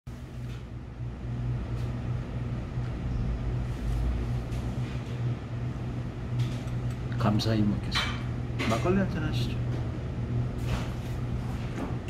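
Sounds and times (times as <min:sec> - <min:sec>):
low mechanical hum: 0:00.1 - 0:12.0.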